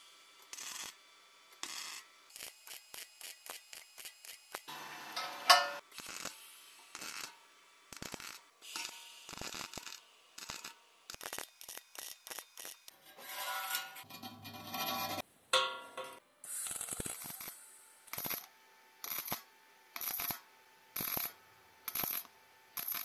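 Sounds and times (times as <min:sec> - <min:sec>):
welding arc crackling and buzzing: 0:00.4 - 0:13.0, 0:16.5 - 0:23.0.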